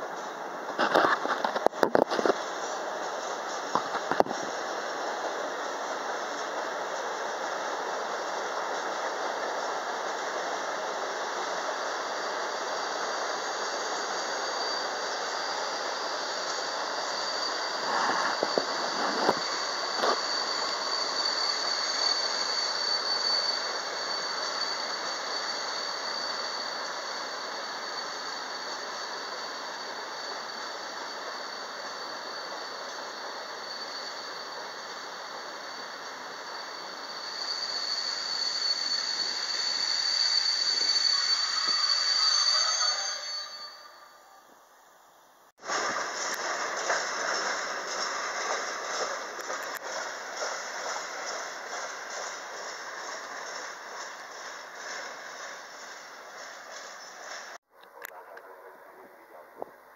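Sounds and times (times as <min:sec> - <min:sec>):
rumble of wheels on rails: 0:00.0 - 0:43.7, 0:45.6 - 0:59.9
train wheels screeching: 0:00.0 - 0:44.5, 0:45.5 - 0:57.7.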